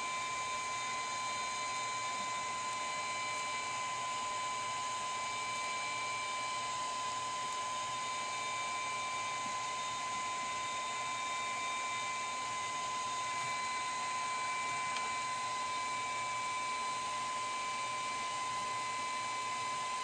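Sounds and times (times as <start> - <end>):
high-pitched motor whine: 0.0 - 20.0.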